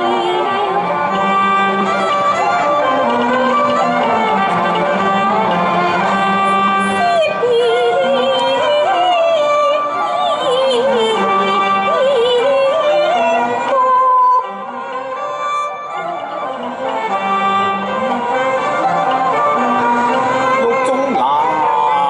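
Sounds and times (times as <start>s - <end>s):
bowed strings: 0.0s - 22.0s.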